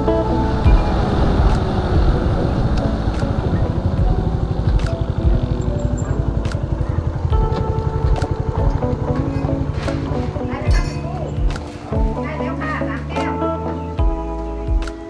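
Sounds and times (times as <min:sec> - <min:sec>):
motorcycle engine running: 0:00.0 - 0:12.2
wind noise: 0:00.0 - 0:12.2
background music: 0:00.0 - 0:15.0.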